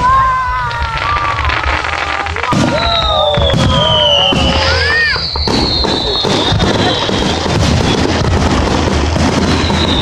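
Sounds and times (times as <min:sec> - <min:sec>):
fireworks bangs and crackles: 0:00.0 - 0:10.0
fireworks whistling: 0:00.0 - 0:10.0.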